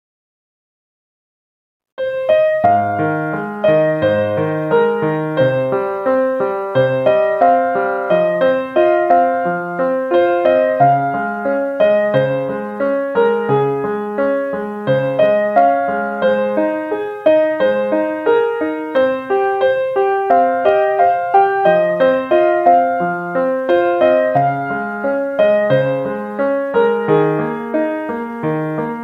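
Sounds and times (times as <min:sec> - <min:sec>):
piano music: 0:02.0 - 0:29.0.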